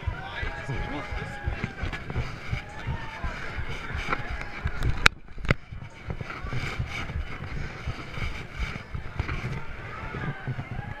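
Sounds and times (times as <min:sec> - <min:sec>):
camera rumbling and rubbing: 0:00.0 - 0:11.0
faint background chatter: 0:00.0 - 0:11.0.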